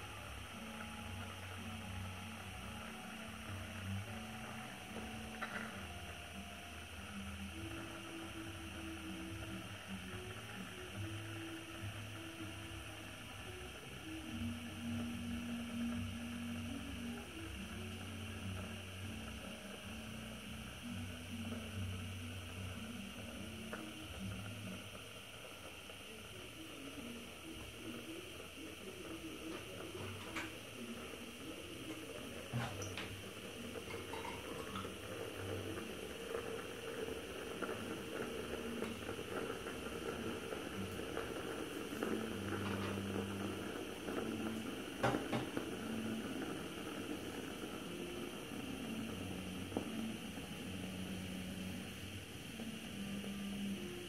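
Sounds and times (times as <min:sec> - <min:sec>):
gas stove burner hissing: 0:00.0 - 0:54.0.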